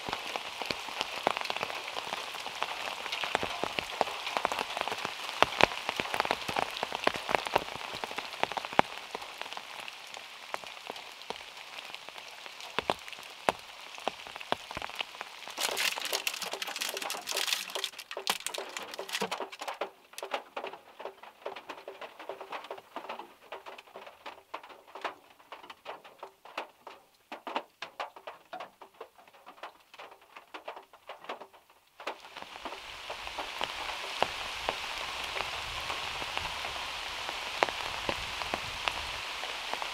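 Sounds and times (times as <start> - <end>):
raindrops pattering on a car: 0.0 - 39.9.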